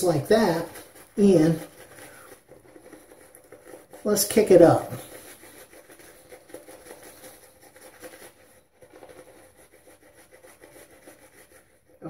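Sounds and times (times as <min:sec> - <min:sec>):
shaving brush scrubbing face: 0:00.0 - 0:12.0.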